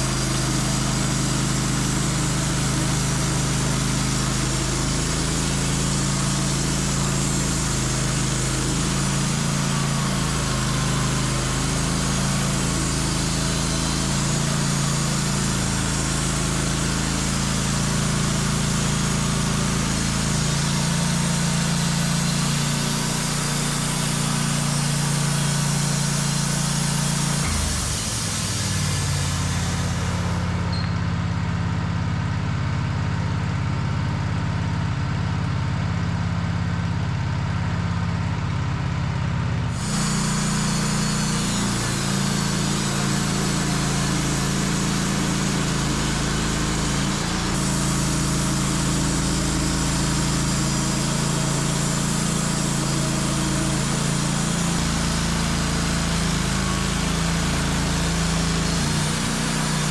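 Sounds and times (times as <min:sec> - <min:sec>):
saw hissing through log: 0:00.0 - 0:30.7, 0:39.7 - 0:59.9
sawmill engine running: 0:00.0 - 0:32.8, 0:39.5 - 0:59.9.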